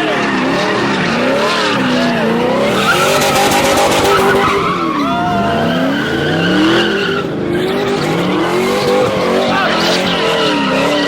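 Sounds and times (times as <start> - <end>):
car engines revving: 0.0 - 11.0
tires squealing: 0.0 - 11.0.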